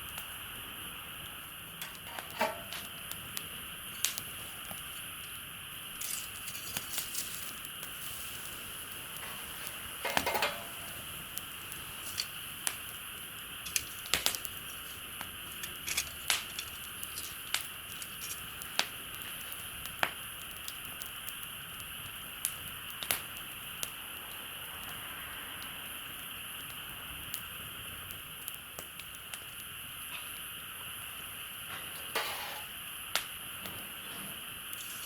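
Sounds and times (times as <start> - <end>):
campfire crackling: 0.0 - 35.0
steady high hiss: 0.0 - 35.0.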